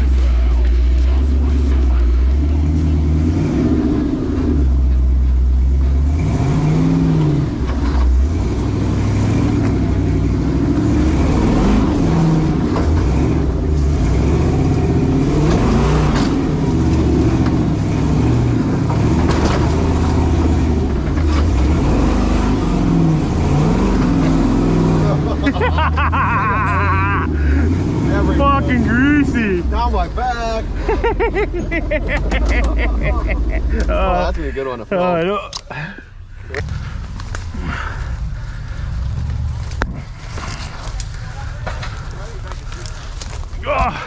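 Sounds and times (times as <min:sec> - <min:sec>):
off-road vehicle engine revving: 0:00.0 - 0:44.0.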